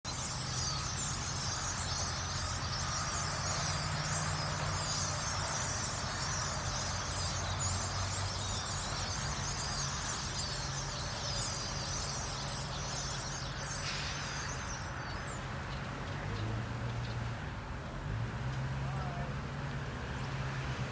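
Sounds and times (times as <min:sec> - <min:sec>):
flock of birds chirping: 0:00.1 - 0:20.9.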